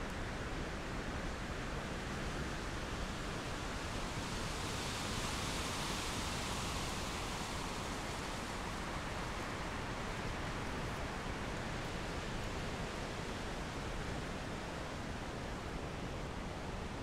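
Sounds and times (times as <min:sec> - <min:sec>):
wind and rain hissing: 0:03.1 - 0:17.0.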